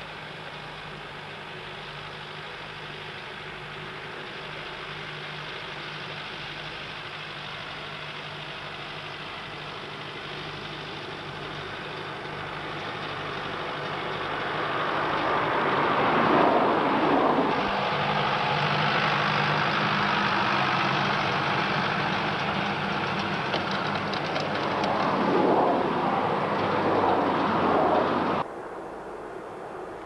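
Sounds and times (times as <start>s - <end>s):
tractor diesel engine running: 0.0s - 28.4s.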